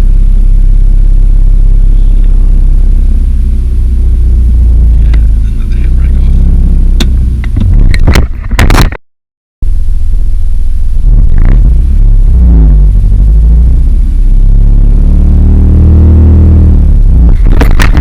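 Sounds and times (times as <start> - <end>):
car engine revving: 0.0 - 8.8, 9.8 - 18.0.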